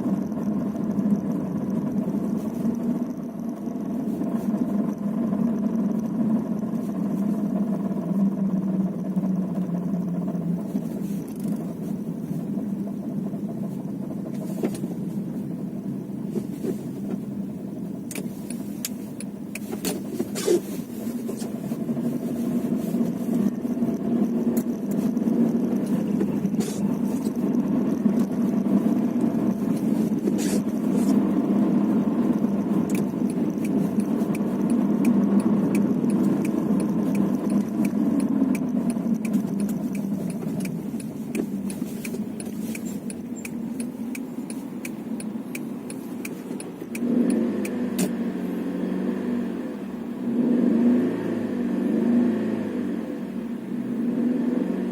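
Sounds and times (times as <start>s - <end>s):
car engine and road noise hum: 0.0s - 54.9s.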